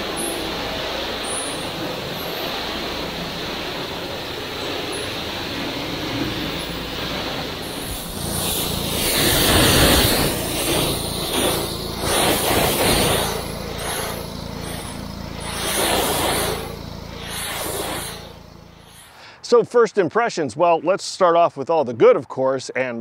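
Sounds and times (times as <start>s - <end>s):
high-pressure water jet hissing: 0.0s - 19.4s
pressure washer engine running: 0.0s - 19.4s.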